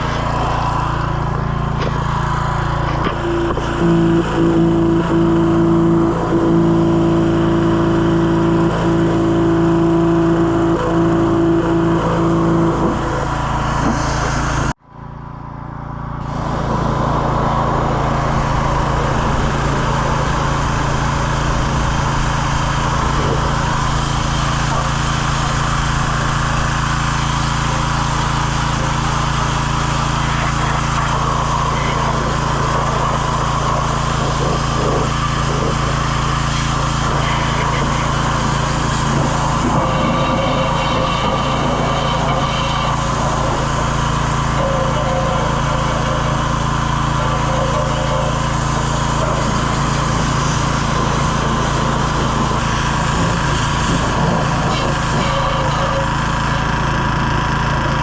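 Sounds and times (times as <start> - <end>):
small engine humming: 0.0 - 58.0.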